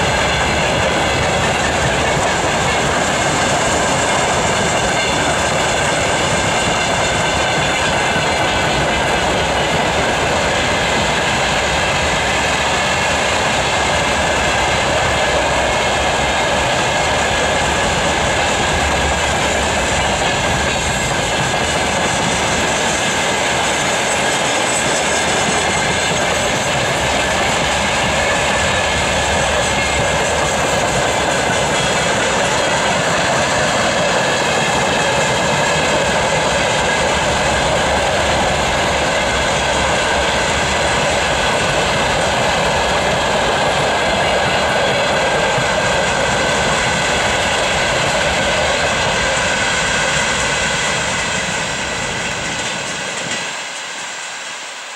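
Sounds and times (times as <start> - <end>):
train wheels on track: 0.0 - 54.9.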